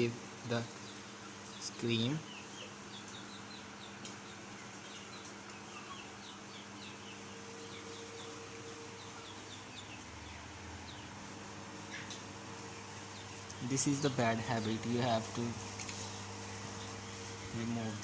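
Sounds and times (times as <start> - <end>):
chickens peeping: 0.0 - 18.0
steady low hum: 0.0 - 18.0.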